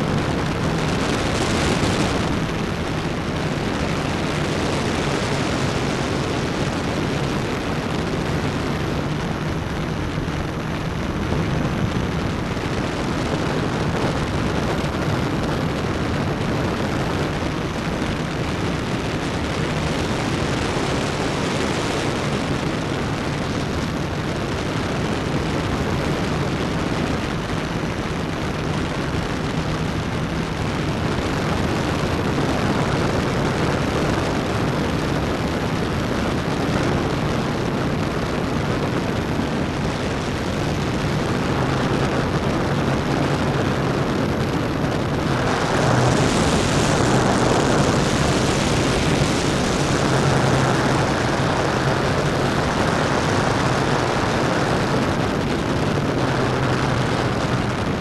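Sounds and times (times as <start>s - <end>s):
drone motors and propellers humming: 0.0s - 58.0s.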